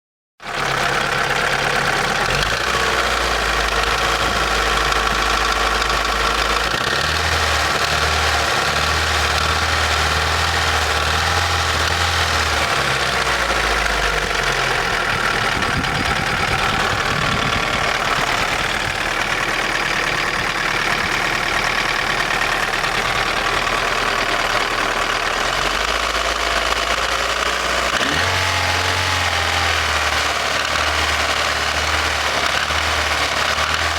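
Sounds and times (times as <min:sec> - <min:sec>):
car engine knocking: 0:00.4 - 0:33.9.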